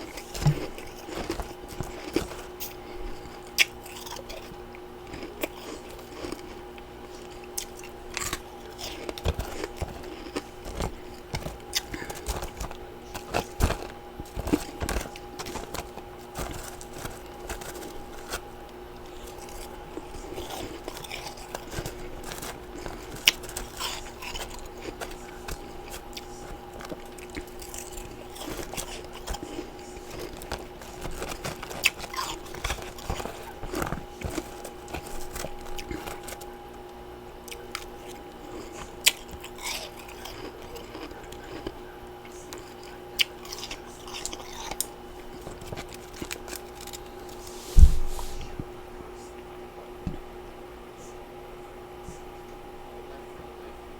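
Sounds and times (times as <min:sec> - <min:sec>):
chewing ice crunches: 0:00.0 - 0:47.5
steady hum: 0:00.0 - 0:53.9.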